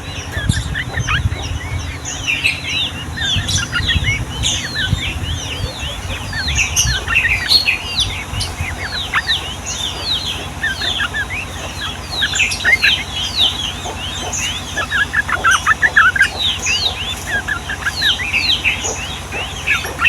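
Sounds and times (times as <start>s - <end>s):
birds chattering with whistled notes: 0.0s - 20.0s
low steady hum: 0.0s - 20.0s.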